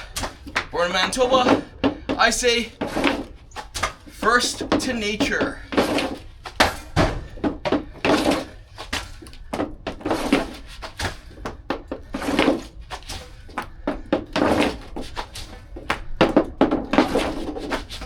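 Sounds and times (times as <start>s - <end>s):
stick and ball knocking on floor: 0.0s - 18.0s.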